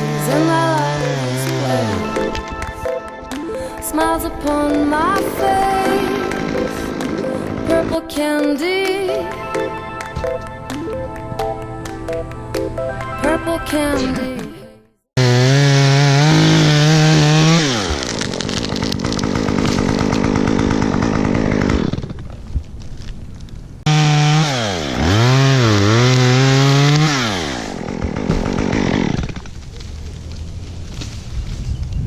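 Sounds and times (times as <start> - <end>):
chainsaw cutting wood: 0.0 - 12.3, 15.2 - 22.5, 23.9 - 31.2.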